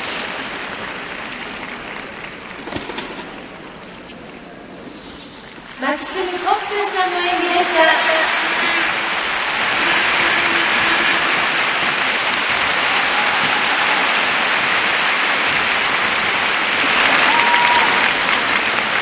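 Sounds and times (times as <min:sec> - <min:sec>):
arena crowd applauding: 0:00.0 - 0:04.8, 0:05.6 - 0:19.0.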